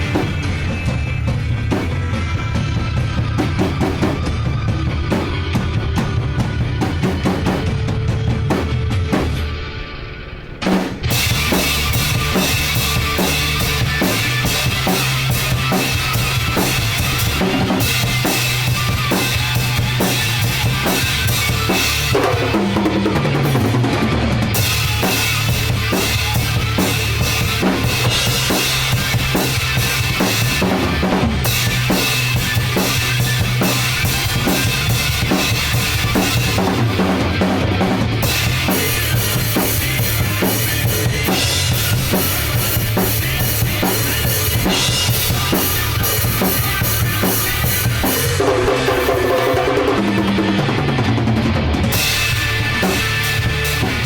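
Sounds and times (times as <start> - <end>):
hard rock music with drums: 0.0 - 54.0.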